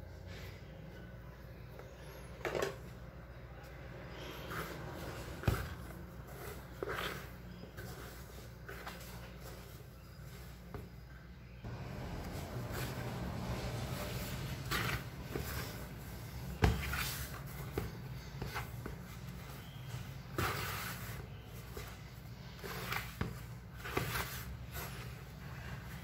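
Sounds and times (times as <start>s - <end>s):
hand squishing dough: 3.1s - 26.0s.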